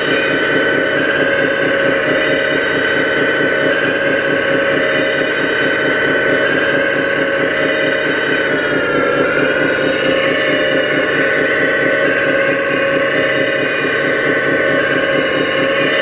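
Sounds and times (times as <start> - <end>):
hydraulic pump whine: 0.0 - 16.0
pulsing engine-like drone: 0.0 - 16.0.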